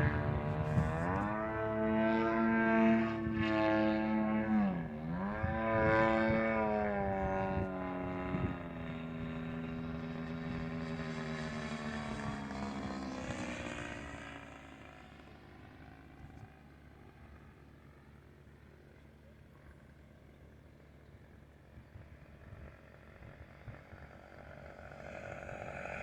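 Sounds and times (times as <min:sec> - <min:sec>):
model airplane engine running: 0:00.0 - 0:26.0.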